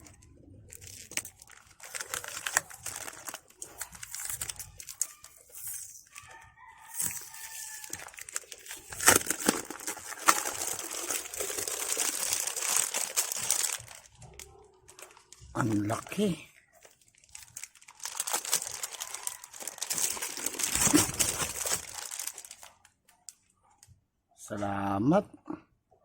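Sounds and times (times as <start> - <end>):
plastic packaging crinkling: 0.0 - 23.4.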